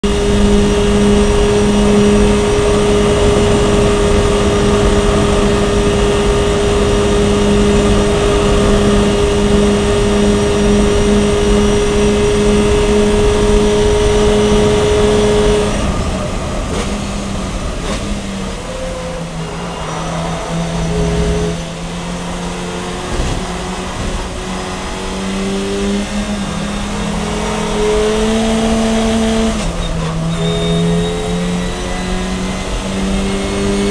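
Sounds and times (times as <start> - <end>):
race car engine: 0.0 - 33.9.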